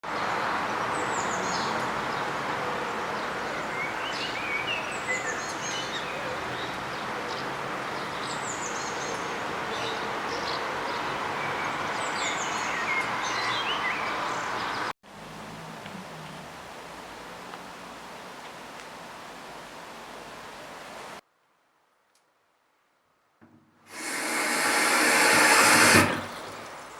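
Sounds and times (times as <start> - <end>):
steady outdoor hiss: 0.1 - 11.0, 15.0 - 26.9.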